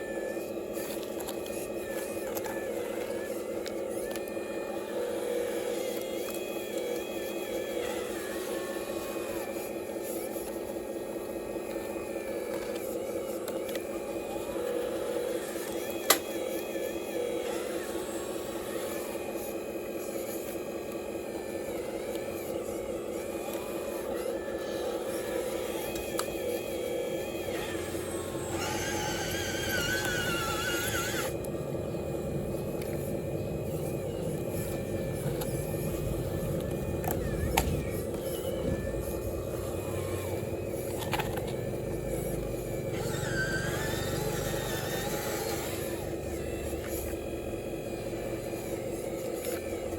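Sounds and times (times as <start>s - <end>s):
electric motor and hydraulic whine: 0.0s - 49.9s.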